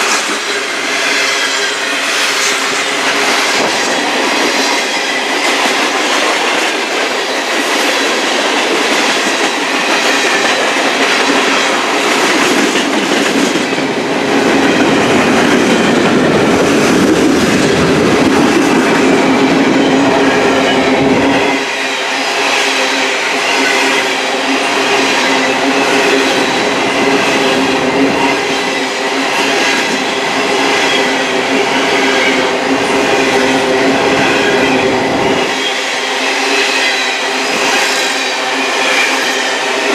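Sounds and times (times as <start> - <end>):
steel wheels on rails: 0.0 - 39.9.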